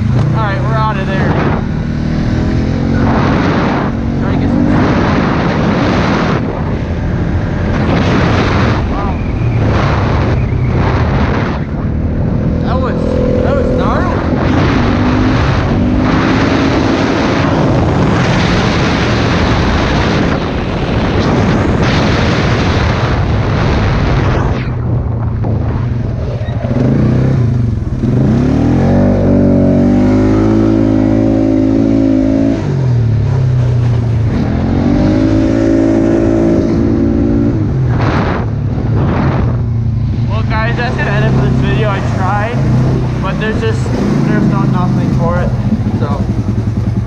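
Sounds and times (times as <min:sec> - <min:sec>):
atv engine running: 0:00.0 - 0:47.0
loud rushing noise: 0:00.0 - 0:47.0.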